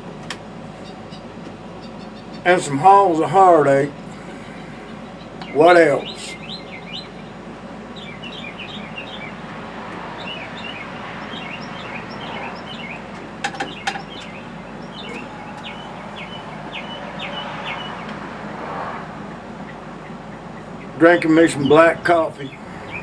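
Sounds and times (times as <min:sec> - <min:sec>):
songbirds chirping: 0:00.0 - 0:23.0
steady background hiss: 0:00.0 - 0:23.0.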